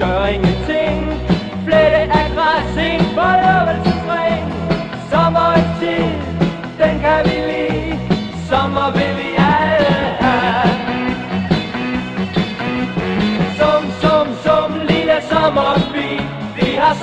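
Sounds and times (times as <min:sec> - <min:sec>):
bass line: 0:00.0 - 0:17.0
drums keeping a steady beat: 0:00.0 - 0:17.0.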